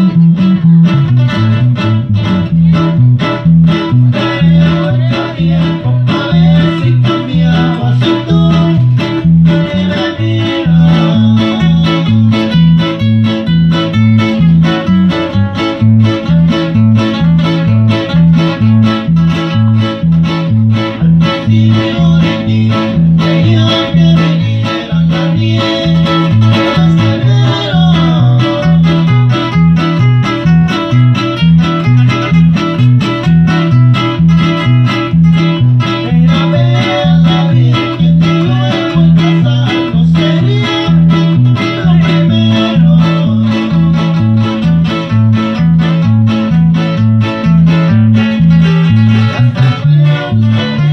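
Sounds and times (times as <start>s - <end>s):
bass line: 0.0s - 50.9s
plucked guitars: 0.0s - 50.9s.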